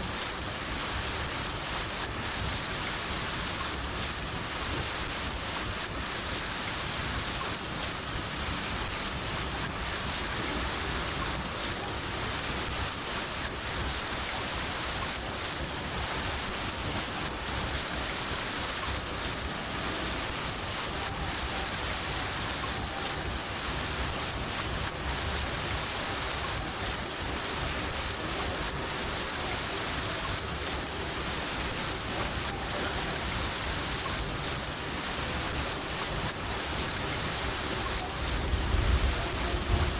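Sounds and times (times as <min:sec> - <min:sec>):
cricket chirping: 0:00.0 - 0:39.9
rain hissing: 0:00.0 - 0:39.9.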